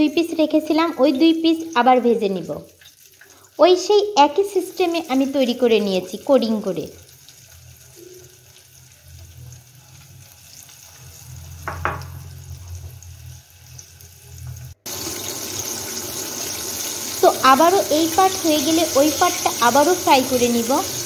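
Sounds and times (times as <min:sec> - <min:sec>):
food sizzling in hot oil: 0:00.2 - 0:21.0.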